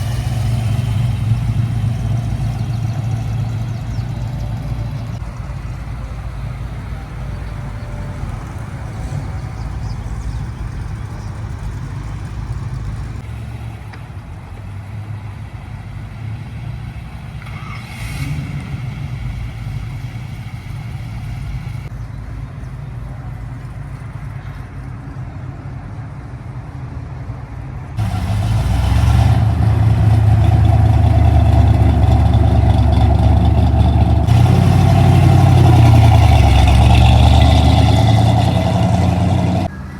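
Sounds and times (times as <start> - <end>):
loud engine: 0.0 - 14.3, 14.9 - 21.9, 28.0 - 39.9
car engines running at low revs: 0.0 - 26.7, 27.4 - 39.9.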